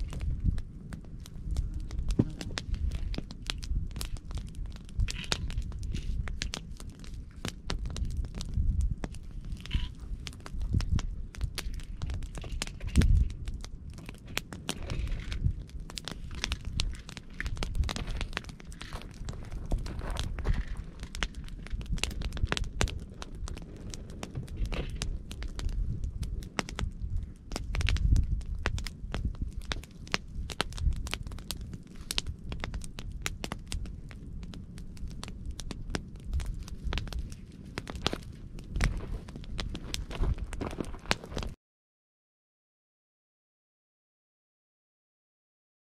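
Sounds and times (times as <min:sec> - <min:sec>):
campfire crackling and popping: 0:00.0 - 0:41.6.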